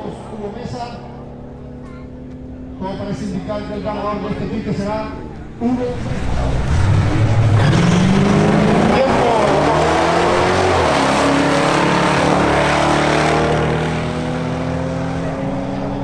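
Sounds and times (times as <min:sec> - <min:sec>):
drag cars accelerating hard: 0:00.0 - 0:16.0.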